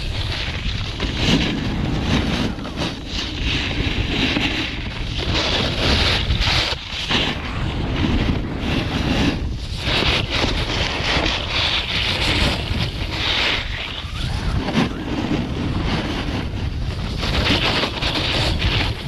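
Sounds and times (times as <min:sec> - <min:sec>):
snowboard scraping on snow: 0:00.0 - 0:19.0
wind buffeting microphone: 0:00.0 - 0:19.0.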